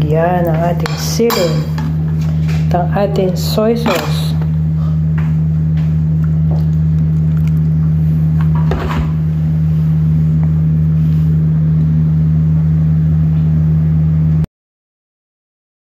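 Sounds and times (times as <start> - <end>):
loud low hum: 0.0 - 14.5.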